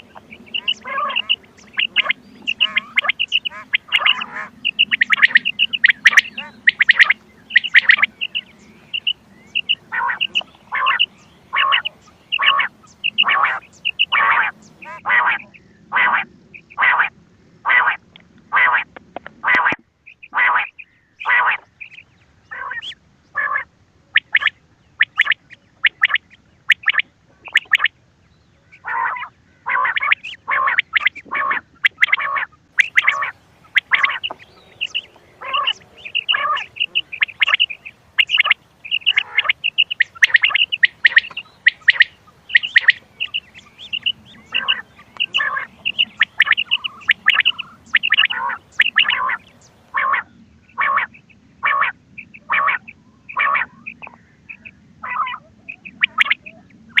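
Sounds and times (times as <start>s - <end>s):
recorded quail calls: 0.0s - 28.0s, 28.6s - 57.0s.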